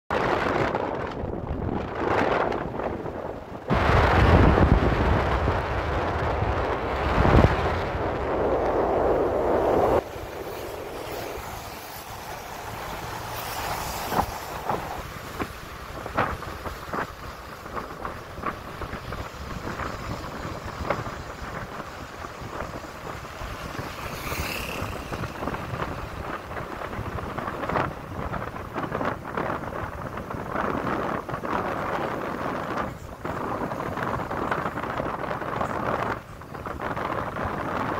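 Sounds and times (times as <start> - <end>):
rolling road noise: 0.1 - 37.9
wind buffeting microphone: 0.1 - 37.9.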